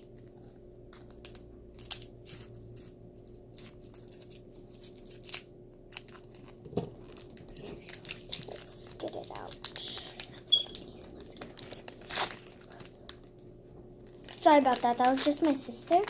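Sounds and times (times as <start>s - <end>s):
faint steady hum: 0.0s - 16.0s
plastic packaging crinkling and tearing: 0.0s - 16.0s.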